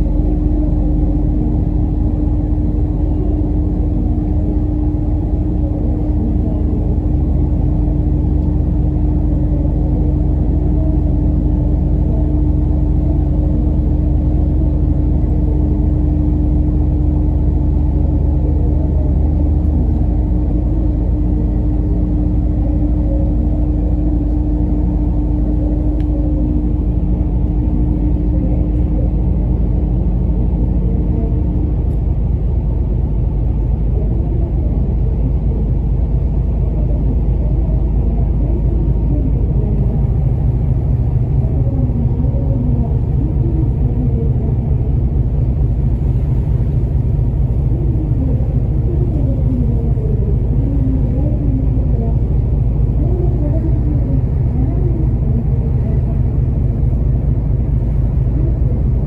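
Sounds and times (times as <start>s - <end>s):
diesel engine droning: 0.0s - 59.0s
steady hum: 0.0s - 59.0s.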